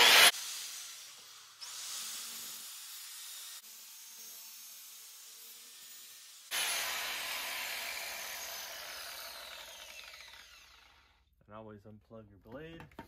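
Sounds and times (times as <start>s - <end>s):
angle grinder cutting metal: 0.0s - 11.1s.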